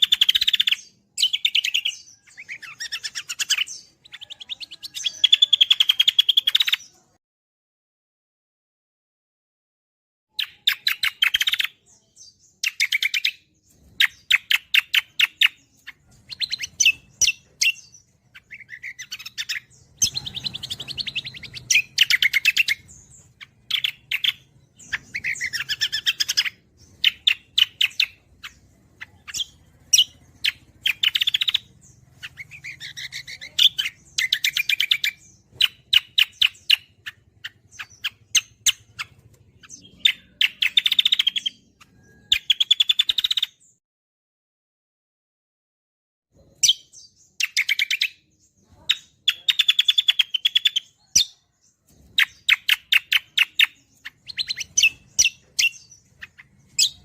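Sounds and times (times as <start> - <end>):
bird chattering trills: 0.0 - 7.0, 10.3 - 43.5, 46.4 - 57.0.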